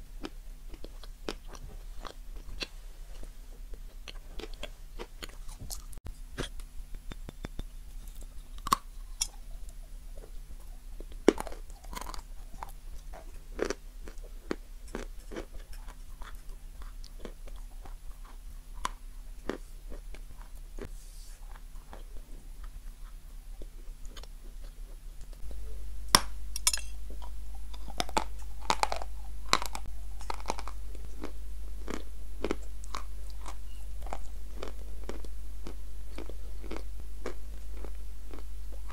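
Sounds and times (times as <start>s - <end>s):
crunchy chewing: 0.0s - 7.1s, 7.7s - 38.9s.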